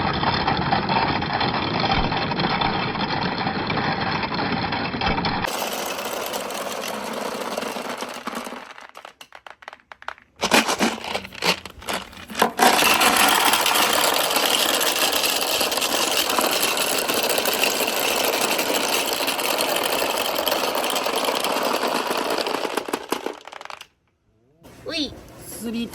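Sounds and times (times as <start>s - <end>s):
marbles clattering down a run: 0.0s - 24.0s.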